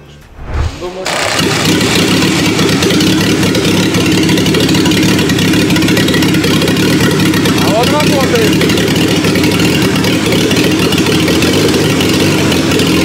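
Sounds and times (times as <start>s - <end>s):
diesel engine running loudly: 0.9s - 13.0s.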